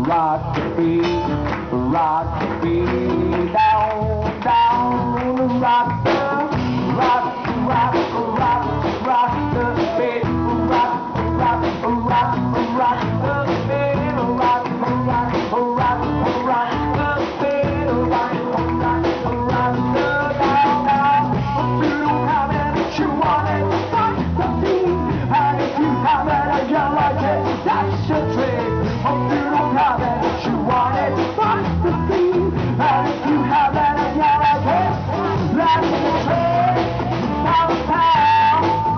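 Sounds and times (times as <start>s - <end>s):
guitar: 0.0s - 38.9s
person singing: 0.0s - 38.9s
steady beat: 0.0s - 38.9s.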